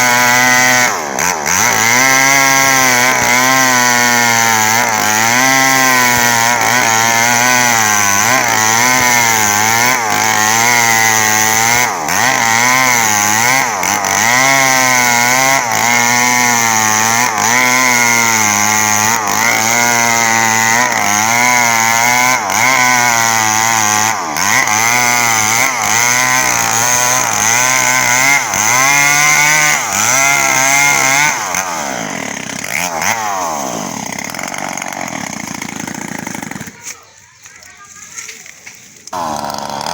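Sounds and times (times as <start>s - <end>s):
chainsaw cutting trunk: 0.0s - 39.9s.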